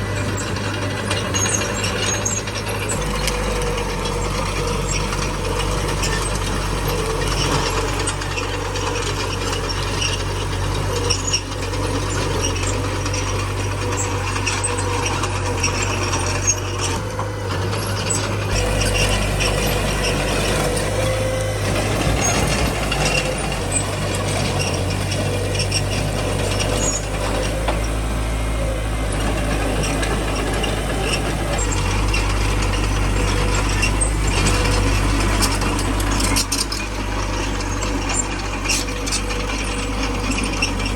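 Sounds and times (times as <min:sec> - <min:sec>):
bulldozer diesel engine: 0:00.0 - 0:40.9
machine rattling and clanking: 0:00.0 - 0:40.9.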